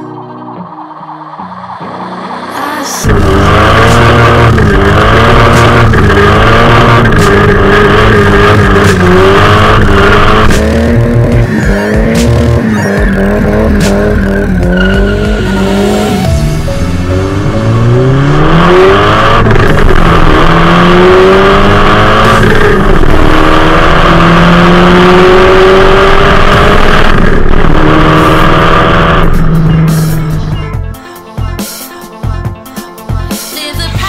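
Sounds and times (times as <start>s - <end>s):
car engine revving hard: 3.0s - 30.4s.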